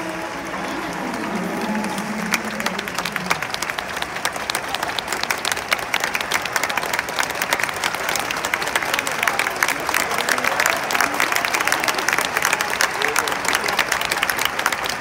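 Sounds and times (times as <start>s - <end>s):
close hand claps: 0.0s - 15.0s
crowd clapping: 0.0s - 15.0s.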